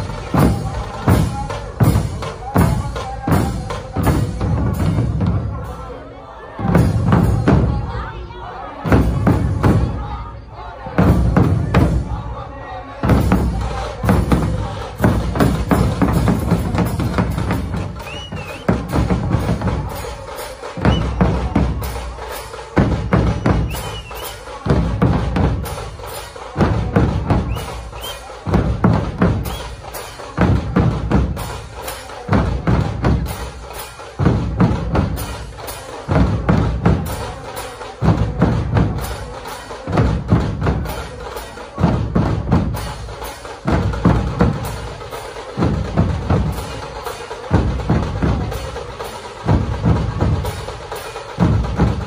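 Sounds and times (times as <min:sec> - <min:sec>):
barrel drums beaten with sticks: 0:00.0 - 0:05.6, 0:06.6 - 0:08.0, 0:08.8 - 0:10.1, 0:10.9 - 0:12.2, 0:13.0 - 0:52.0.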